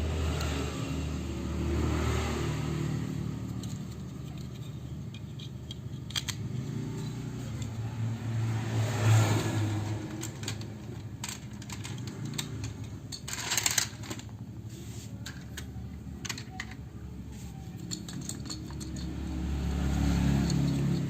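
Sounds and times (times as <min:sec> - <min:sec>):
plastic toy parts rattling: 0:03.2 - 0:21.0.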